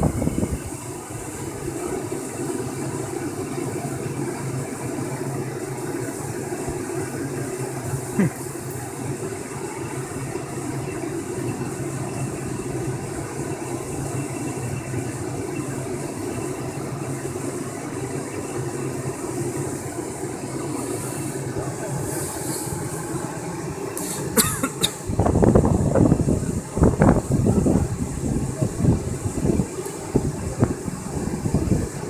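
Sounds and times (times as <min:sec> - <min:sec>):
air blower motor running: 0:00.0 - 0:32.0.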